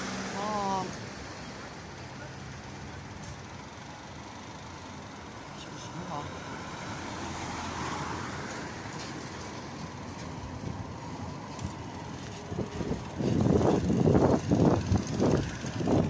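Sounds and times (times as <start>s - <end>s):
city road traffic: 0.0s - 16.0s.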